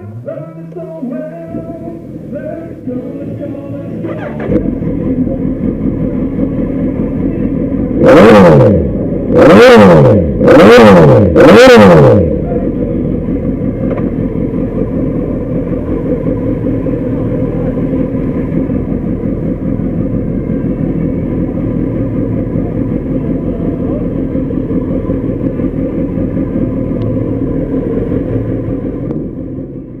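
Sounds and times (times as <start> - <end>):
motorcycle engine idling: 0.0 - 9.6, 12.2 - 30.0.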